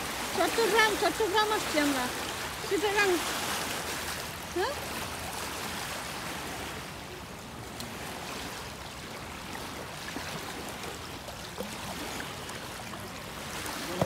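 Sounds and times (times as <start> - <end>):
small waves lapping on shore: 0.0 - 14.0.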